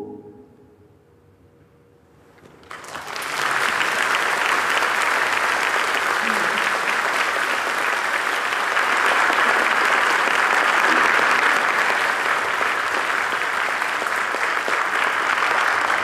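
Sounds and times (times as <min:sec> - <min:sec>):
audience applauding: 0:02.6 - 0:16.0.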